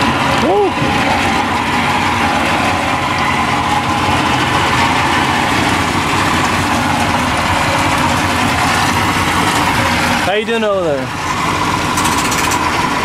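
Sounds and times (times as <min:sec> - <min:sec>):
outboard motors idling: 0:00.0 - 0:13.0.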